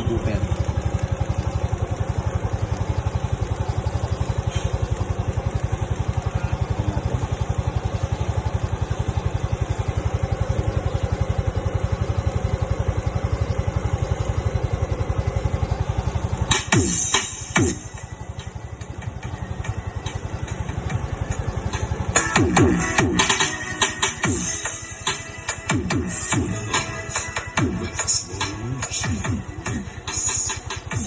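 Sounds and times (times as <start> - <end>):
scooter engine idling: 0.0 - 31.0.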